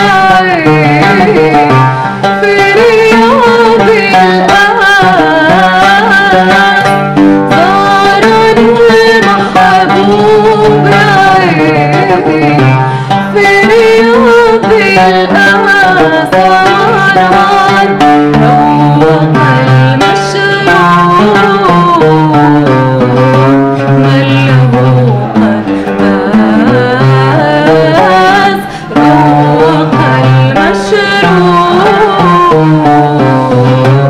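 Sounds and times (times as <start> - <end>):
plucked oud: 0.0 - 34.0
woman singing: 0.0 - 34.0.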